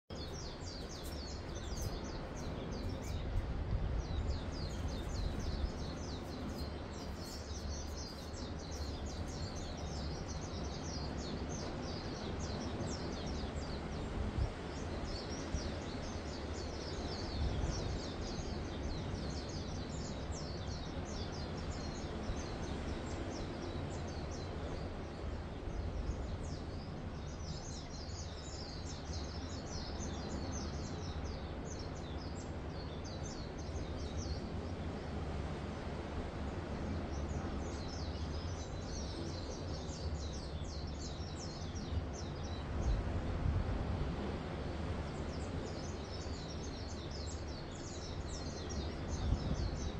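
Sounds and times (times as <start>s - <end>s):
gentle surf: 0.1s - 49.9s
songbirds chirping: 0.1s - 49.9s.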